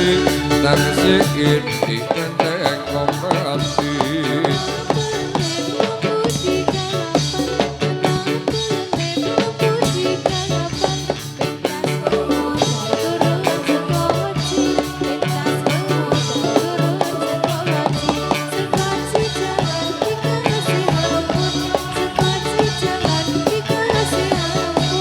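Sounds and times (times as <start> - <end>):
fast drum beat: 0.0 - 25.0
live band playing: 0.0 - 25.0
pulsing bass line: 0.0 - 25.0.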